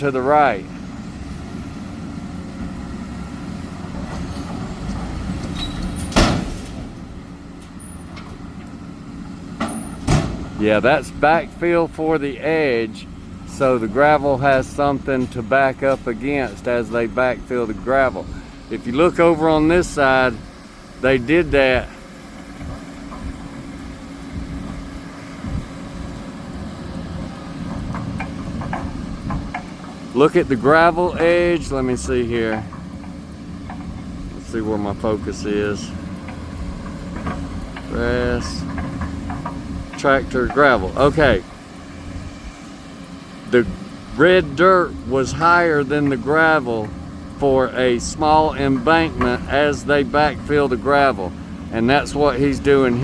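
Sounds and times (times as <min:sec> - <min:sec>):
diesel truck engine rumble: 0:00.0 - 0:53.0.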